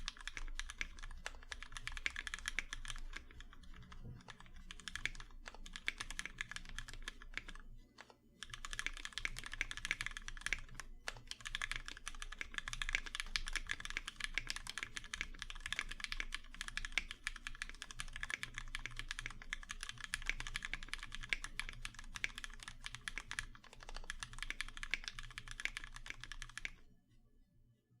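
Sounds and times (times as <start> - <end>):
fast mechanical keyboard typing: 0.0 - 26.9.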